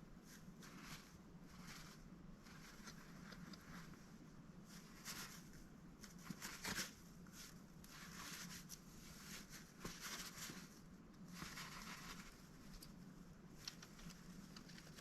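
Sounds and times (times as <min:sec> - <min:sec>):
duck rustling and pattering: 0:00.0 - 0:15.0
low steady hum: 0:00.0 - 0:15.0.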